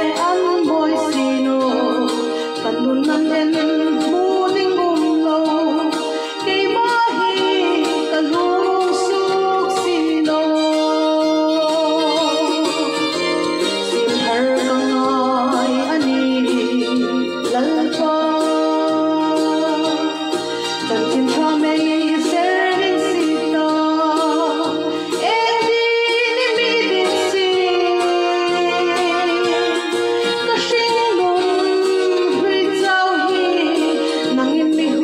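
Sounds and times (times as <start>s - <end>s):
electronic keyboard: 0.0s - 35.0s
woman singing with vibrato: 0.0s - 35.0s.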